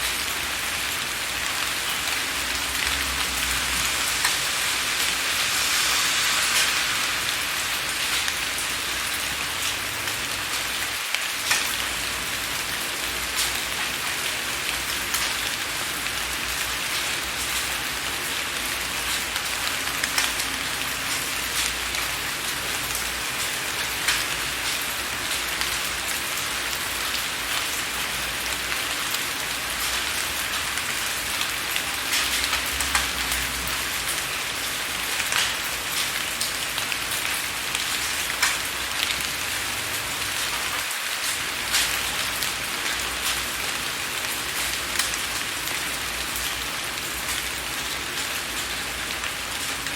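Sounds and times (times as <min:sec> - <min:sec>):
rain hiss: 0:00.0 - 0:49.9
rain pattering on window: 0:00.0 - 0:49.9.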